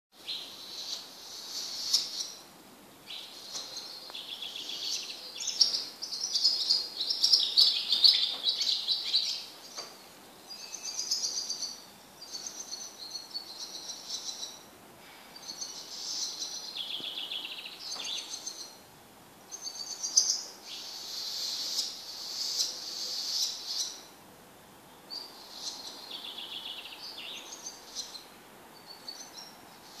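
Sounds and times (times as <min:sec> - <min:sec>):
songbirds singing: 0:00.2 - 0:30.0.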